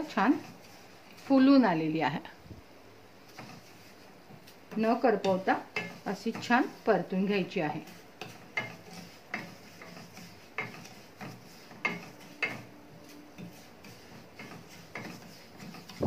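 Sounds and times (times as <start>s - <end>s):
wooden spatula scraping a pan: 0.0s - 2.3s, 3.2s - 16.0s.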